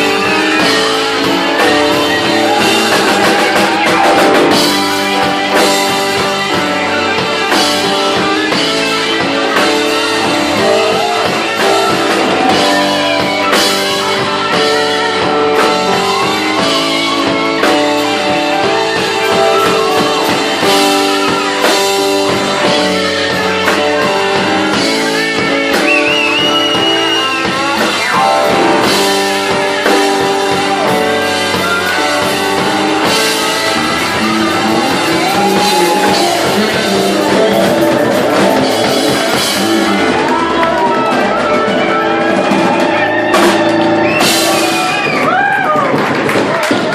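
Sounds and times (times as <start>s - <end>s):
blues guitar with bent notes: 0.0s - 46.9s
drum kit: 0.0s - 46.9s.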